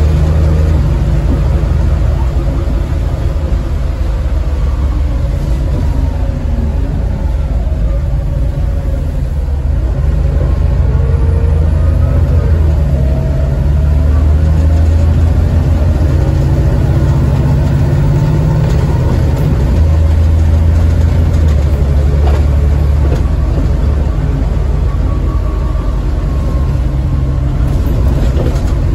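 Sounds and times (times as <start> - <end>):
bus engine drone: 0.0 - 28.9.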